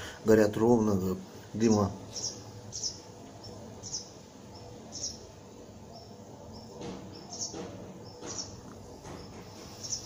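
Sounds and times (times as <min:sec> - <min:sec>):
small bird chirping: 0:01.4 - 0:10.0.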